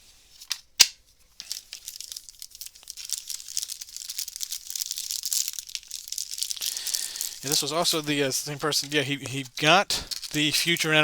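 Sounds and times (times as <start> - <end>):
trading cards handled: 0.3 - 11.0
plastic wrapper crinkling: 0.4 - 11.0.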